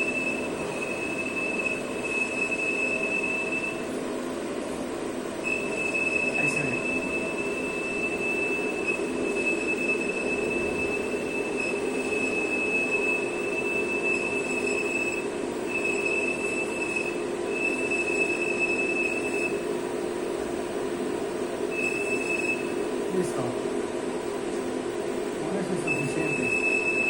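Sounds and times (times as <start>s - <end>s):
lathe spindle hum: 0.0s - 27.0s.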